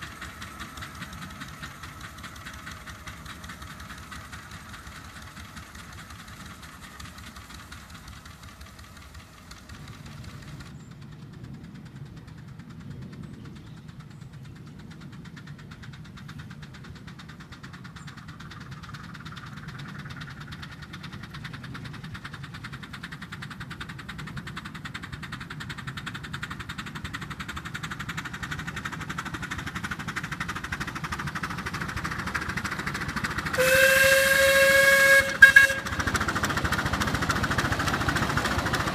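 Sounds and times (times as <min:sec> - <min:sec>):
steam locomotive chuffing: 0:00.0 - 0:38.9.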